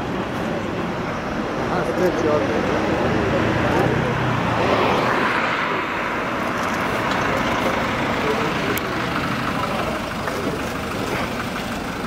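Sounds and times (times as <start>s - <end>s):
motorhome driving slowly: 0.0s - 12.0s
tyre road noise: 0.0s - 12.0s.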